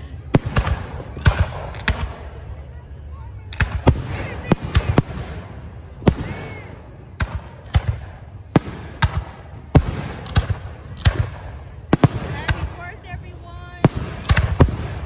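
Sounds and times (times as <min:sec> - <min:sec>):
fireworks bursting with sharp bangs: 0:00.2 - 0:02.6, 0:03.5 - 0:15.0.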